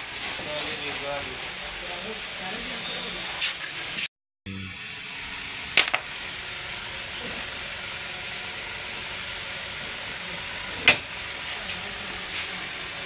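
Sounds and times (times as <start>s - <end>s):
workshop background hiss: 0.0s - 4.1s, 5.5s - 13.0s.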